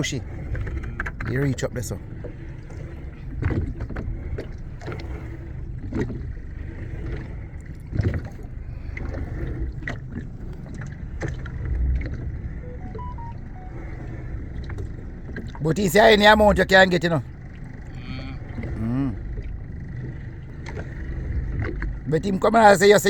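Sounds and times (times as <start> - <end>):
boat engine rumble: 0.0 - 23.0
water: 0.0 - 23.0
wind: 0.0 - 23.0.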